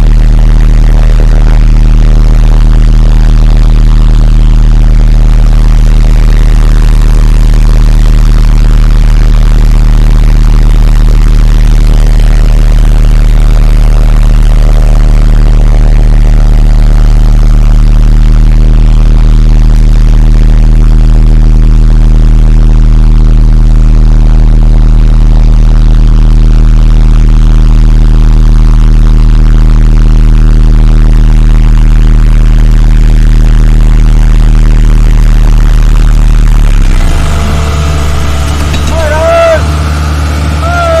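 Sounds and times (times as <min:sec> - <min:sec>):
diesel engine deep hum: 0:00.0 - 0:41.0.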